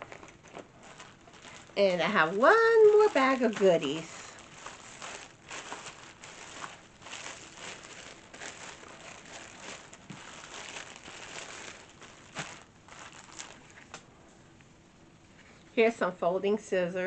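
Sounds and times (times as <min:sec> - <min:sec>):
bag crinkling and rustling: 0:00.0 - 0:14.0.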